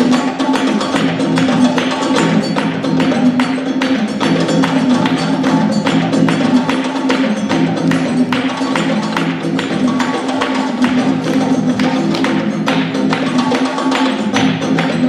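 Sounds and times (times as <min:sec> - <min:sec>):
music with percussive beat: 0:00.0 - 0:15.0.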